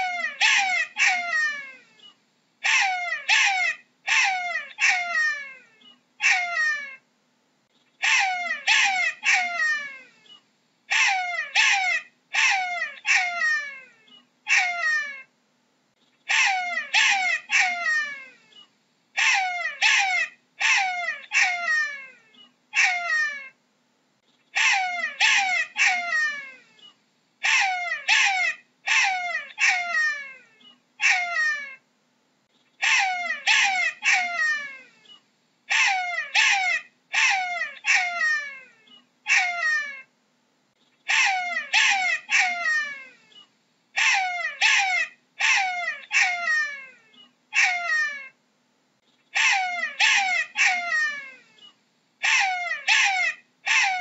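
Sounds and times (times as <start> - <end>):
jackal yelping: 0.0 - 1.9, 2.6 - 7.0, 8.0 - 10.1, 10.9 - 15.3, 16.3 - 18.4, 19.2 - 23.6, 24.5 - 31.8, 32.8 - 40.1, 41.0 - 43.4, 44.0 - 48.4, 49.3 - 54.0.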